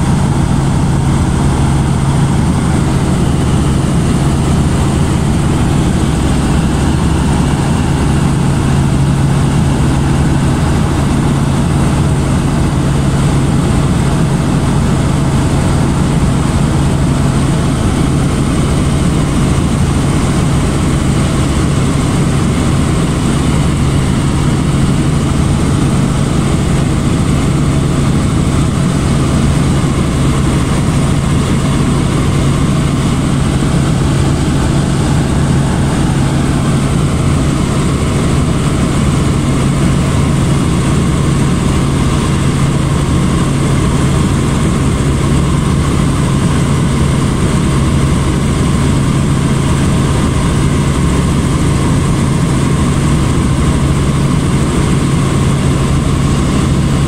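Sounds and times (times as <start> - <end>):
helicopter cabin drone: 0.0 - 57.0.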